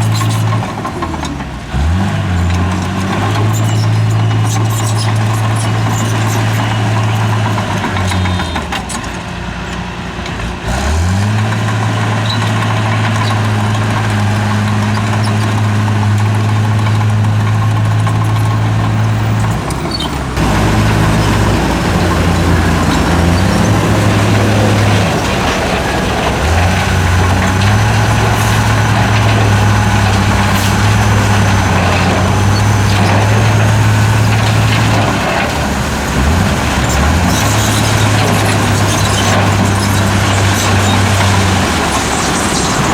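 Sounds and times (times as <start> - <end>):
heavy diesel engine under load: 0.0 - 42.9.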